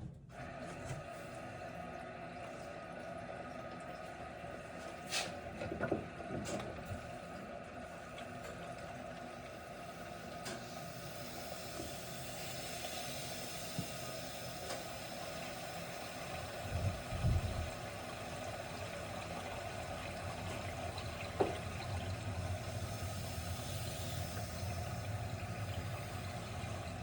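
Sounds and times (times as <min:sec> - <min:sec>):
water rushing through pipes: 0:00.3 - 0:27.0.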